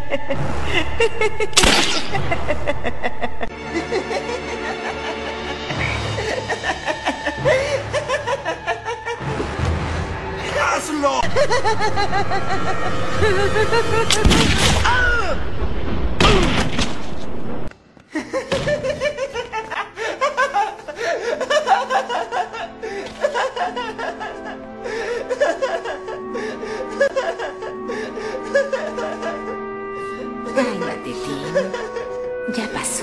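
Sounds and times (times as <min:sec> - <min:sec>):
dramatic orchestral music: 0:00.0 - 0:17.7, 0:19.9 - 0:33.0.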